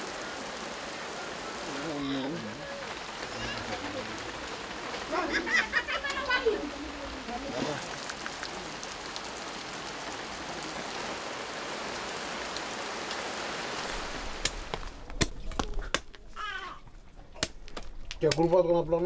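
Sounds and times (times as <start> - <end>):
water streaming off roof: 0.0 - 15.8
steady rain falling: 0.0 - 19.0.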